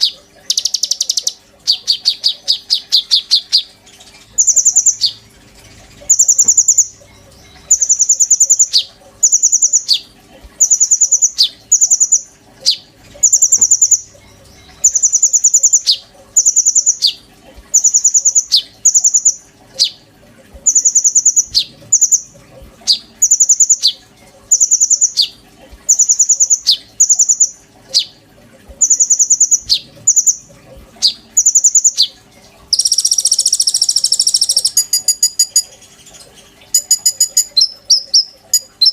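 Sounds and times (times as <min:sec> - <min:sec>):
bird singing trill: 0:00.0 - 0:05.2, 0:06.0 - 0:17.2, 0:17.8 - 0:20.0, 0:20.6 - 0:25.3, 0:28.8 - 0:30.4, 0:31.0 - 0:35.7, 0:36.7 - 0:38.9.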